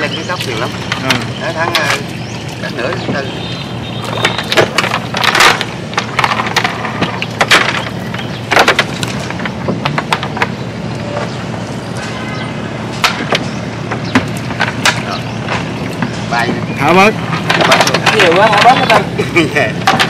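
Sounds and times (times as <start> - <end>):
sharp knocks and rattles: 0.0 - 12.3, 12.9 - 19.1, 19.7 - 20.0
boat motor running: 0.0 - 20.0.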